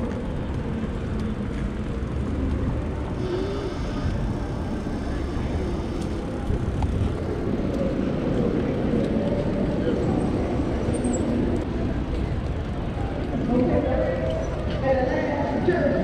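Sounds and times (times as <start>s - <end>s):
tyre noise on pavement: 0.0s - 15.5s
wind rumble on microphone: 0.0s - 16.0s.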